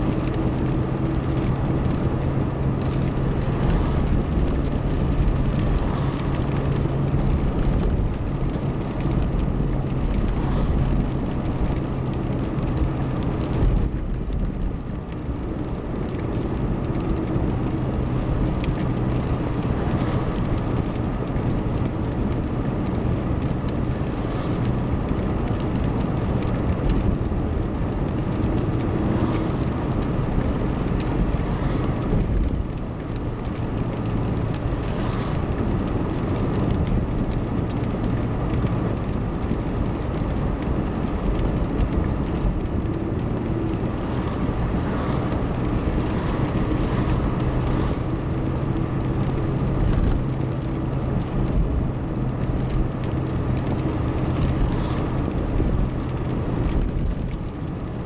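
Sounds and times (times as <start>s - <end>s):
car engine hum: 0.0s - 58.0s
tyre noise on road: 0.0s - 58.0s.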